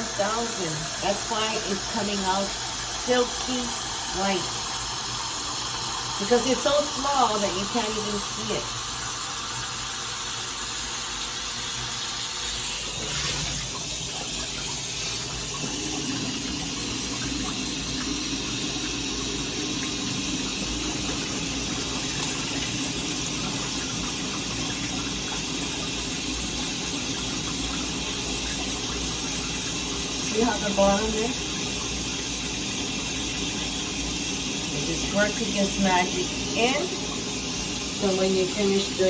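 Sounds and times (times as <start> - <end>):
shower water running: 0.0 - 39.0.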